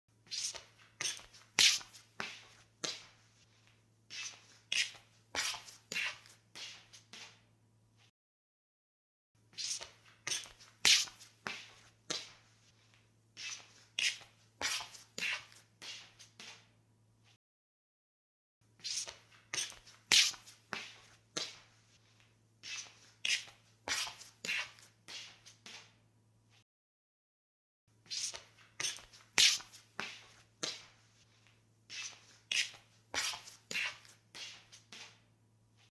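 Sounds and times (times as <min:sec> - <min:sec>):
footsteps in slippers: 0:00.2 - 0:07.5, 0:09.5 - 0:16.7, 0:18.8 - 0:26.0, 0:28.0 - 0:35.9.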